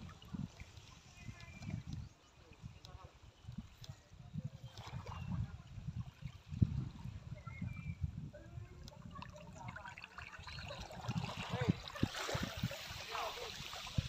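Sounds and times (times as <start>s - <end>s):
small waves lapping on shore: 0.0s - 7.6s, 8.3s - 14.0s.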